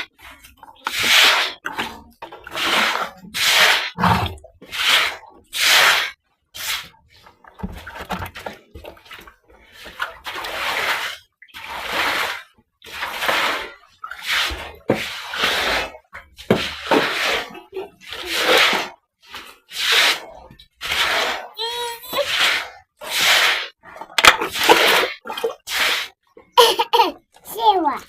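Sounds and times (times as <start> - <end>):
brush sweeping water: 0.0 - 28.0.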